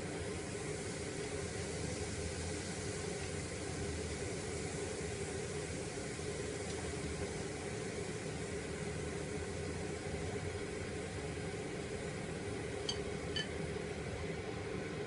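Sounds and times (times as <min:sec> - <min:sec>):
rushing kitchen hum: 0:00.0 - 0:15.0.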